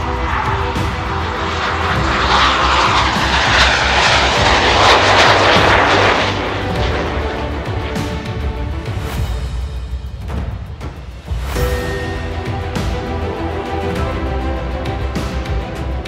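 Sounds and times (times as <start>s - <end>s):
background music: 0.0s - 16.0s
jet engines flying past: 0.0s - 16.0s.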